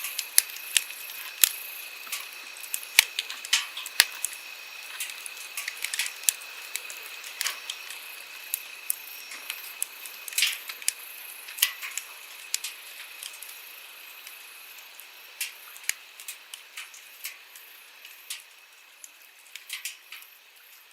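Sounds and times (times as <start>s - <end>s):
campfire crackling and popping: 0.0s - 20.4s.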